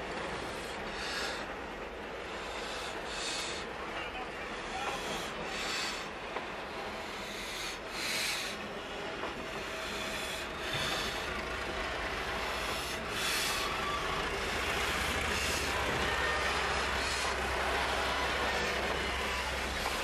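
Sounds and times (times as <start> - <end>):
train wheels grinding on rails: 0.0 - 20.0.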